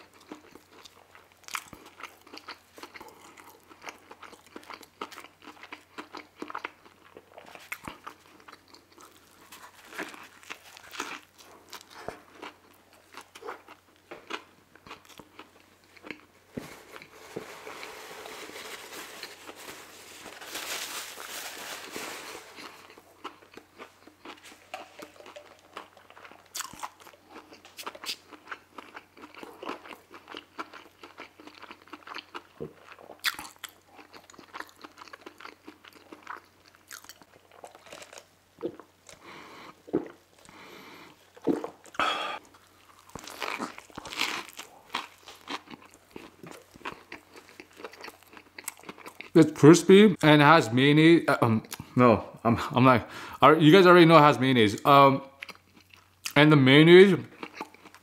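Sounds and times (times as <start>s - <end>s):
crunching fried chicken: 0.0s - 16.3s, 16.9s - 39.8s, 41.7s - 49.4s, 55.3s - 58.0s.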